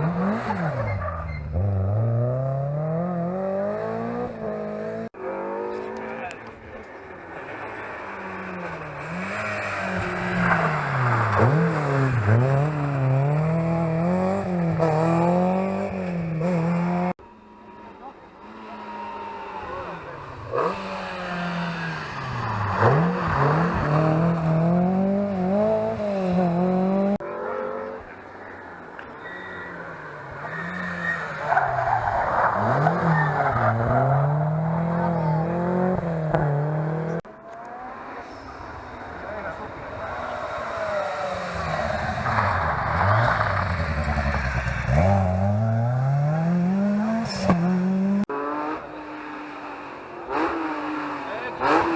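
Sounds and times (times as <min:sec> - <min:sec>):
rally car engine revving: 0:00.0 - 0:17.2, 0:18.4 - 0:28.3, 0:30.1 - 0:51.9.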